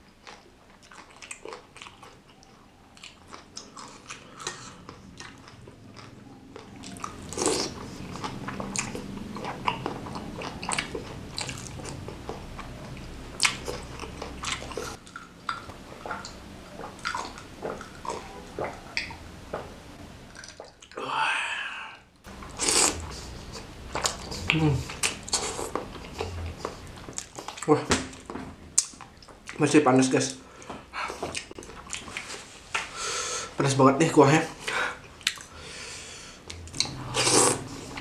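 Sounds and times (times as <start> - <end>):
wet chewing and smacking: 0.0 - 21.0, 22.3 - 32.4, 35.0 - 35.5.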